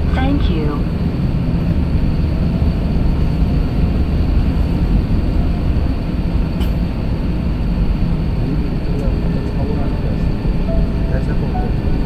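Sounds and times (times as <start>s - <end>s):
aircraft cabin engine rumble: 0.0s - 12.0s
air system blowing: 0.8s - 12.0s.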